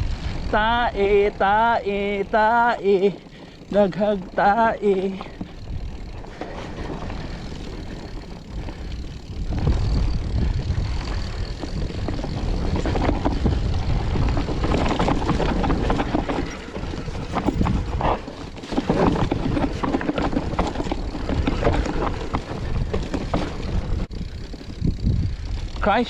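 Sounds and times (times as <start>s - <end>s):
wind on microphone: 0.0s - 2.8s, 3.9s - 26.0s
bicycle riding rumble: 0.0s - 26.0s
road noise: 0.0s - 26.0s.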